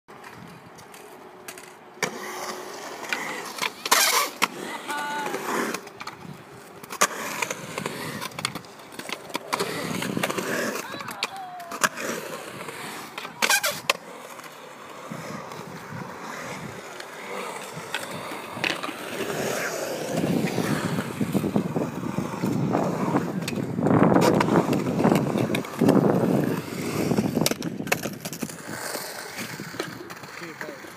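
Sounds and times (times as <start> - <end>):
skateboard wheels rolling on concrete: 0.1 - 30.9
skateboard clacking on concrete: 0.2 - 30.9.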